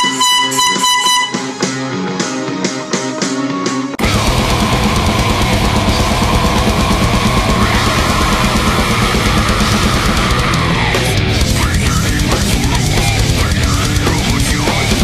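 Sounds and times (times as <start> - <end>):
heavy metal music: 0.0 - 15.0
picked guitar notes: 0.0 - 15.0.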